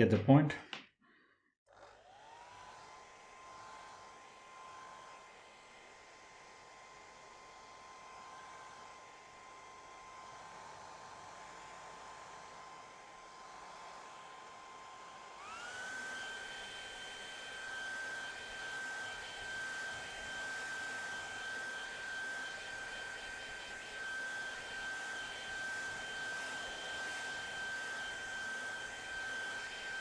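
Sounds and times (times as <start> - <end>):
hair dryer blowing: 1.7 - 30.0.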